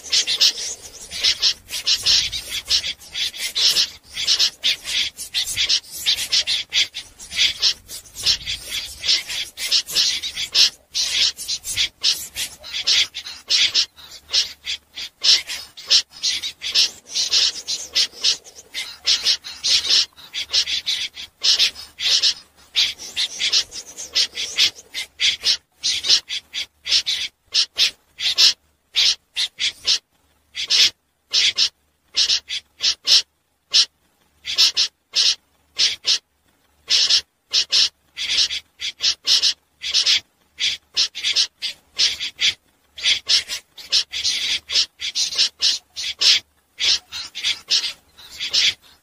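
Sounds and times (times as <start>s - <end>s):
snipes calling: 0.0s - 36.2s, 36.8s - 49.0s.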